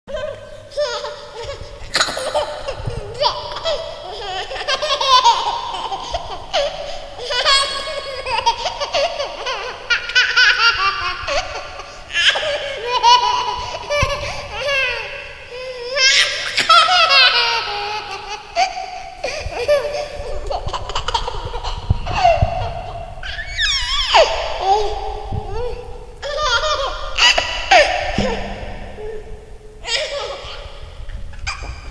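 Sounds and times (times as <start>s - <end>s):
baby laughing: 0.1s - 30.8s.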